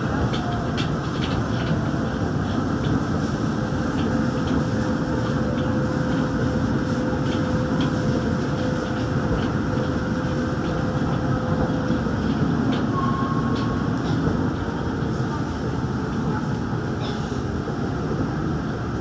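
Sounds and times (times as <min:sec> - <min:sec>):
train tyres rumbling: 0:00.0 - 0:19.0.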